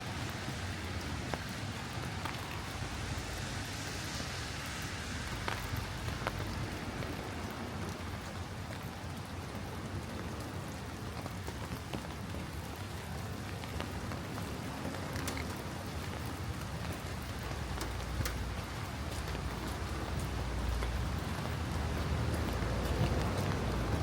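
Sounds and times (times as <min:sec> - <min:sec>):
rain pattering on surfaces: 0:00.0 - 0:24.0
sharp ticks of raindrops: 0:00.0 - 0:24.0.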